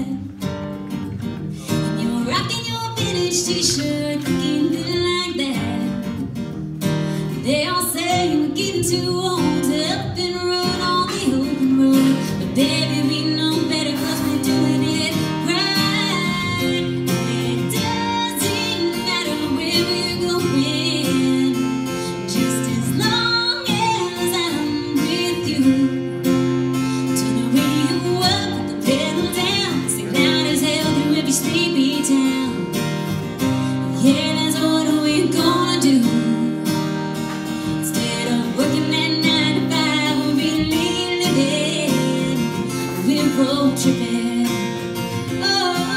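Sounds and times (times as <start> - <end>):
woman singing: 0.0 - 6.5, 7.2 - 45.9
acoustic guitars: 0.0 - 45.9.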